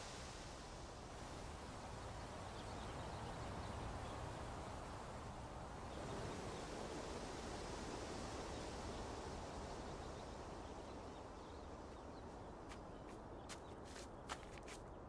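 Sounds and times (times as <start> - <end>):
faint wind hiss: 0.0 - 15.0.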